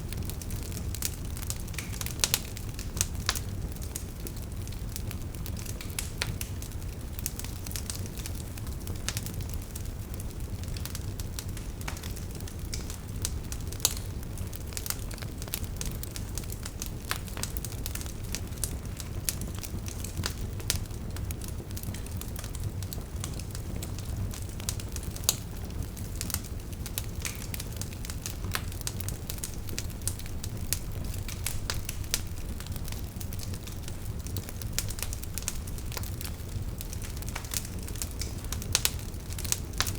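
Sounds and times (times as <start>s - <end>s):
low rumble of flames: 0.0s - 39.9s
logs crackling and popping: 0.1s - 39.9s.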